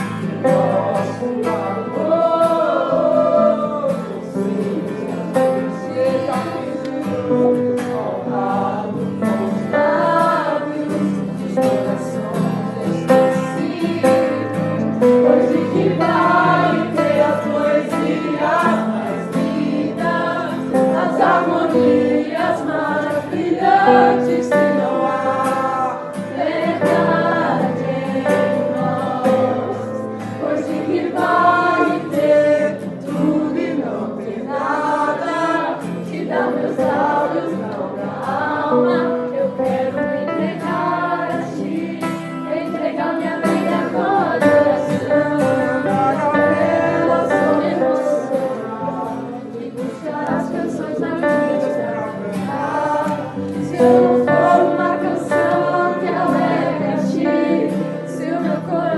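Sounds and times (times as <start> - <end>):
choir singing gospel song: 0.0 - 58.9
instrumental accompaniment: 0.0 - 58.9.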